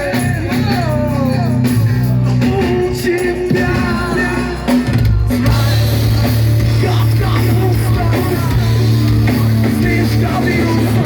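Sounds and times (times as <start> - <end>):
distorted guitars: 0.0 - 11.0
rock band playing: 0.0 - 11.0.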